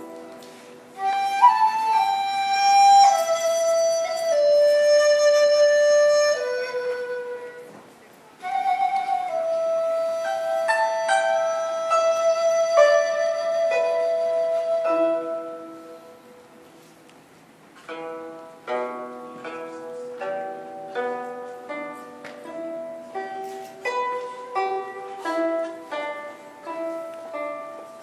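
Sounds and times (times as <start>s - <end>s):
guzheng plucking slow melody: 0.0s - 28.0s.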